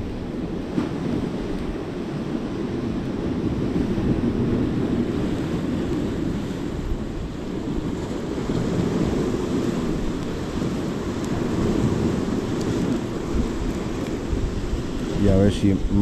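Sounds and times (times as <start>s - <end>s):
surf breaking on shore: 0.0s - 16.0s
wind buffeting microphone: 0.0s - 16.0s.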